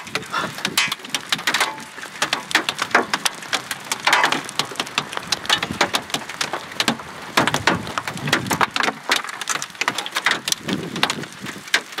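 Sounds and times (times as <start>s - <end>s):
hailstones striking: 0.0s - 12.0s
rain hiss: 0.0s - 12.0s.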